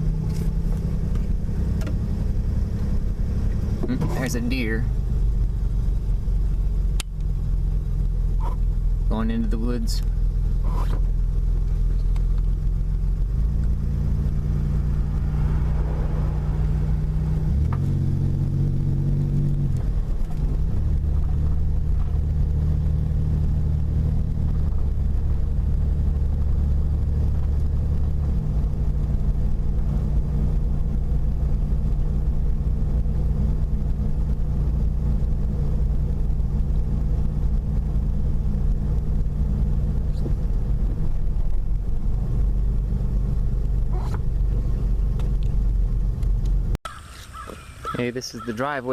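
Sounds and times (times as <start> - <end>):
car engine hum: 0.0 - 48.9
road noise: 0.0 - 48.9.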